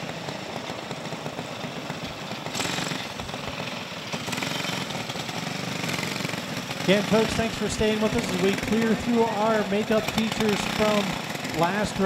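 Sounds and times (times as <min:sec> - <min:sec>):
go-kart engines buzzing: 0:00.0 - 0:12.0.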